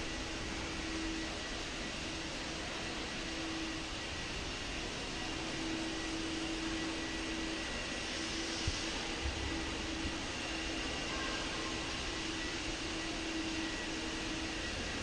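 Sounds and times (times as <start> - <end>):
background hiss in a large hall: 0.0 - 15.0.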